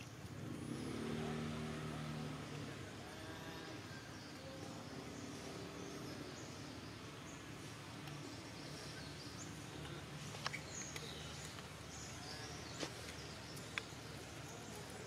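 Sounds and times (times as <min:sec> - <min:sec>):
distant bird chirps: 0:00.0 - 0:15.0.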